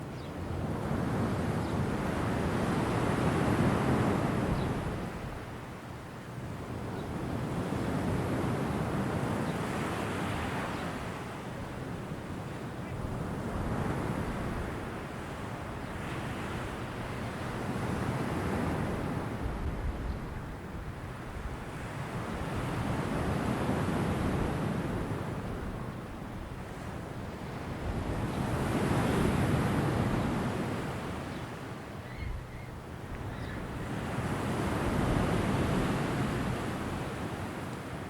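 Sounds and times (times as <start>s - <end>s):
ocean waves breaking on shore: 0.0s - 32.1s, 32.7s - 38.0s.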